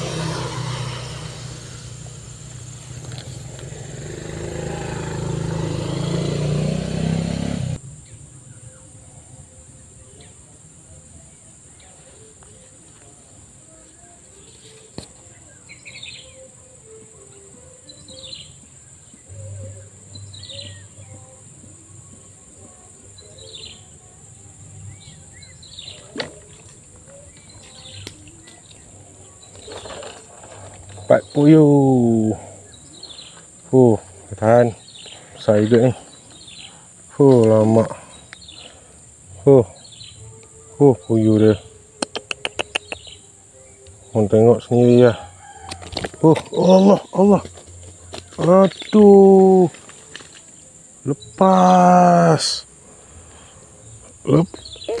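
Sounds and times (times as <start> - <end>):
bird chirping: 0.0 - 55.0.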